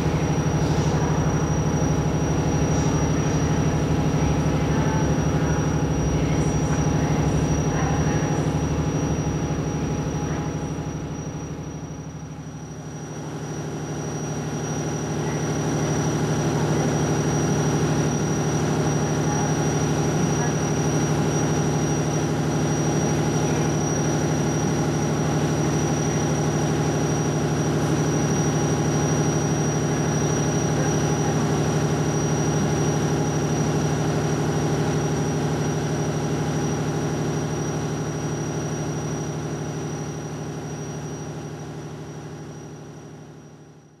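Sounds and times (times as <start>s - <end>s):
train equipment humming: 0.0s - 41.0s
high whine: 0.0s - 43.6s.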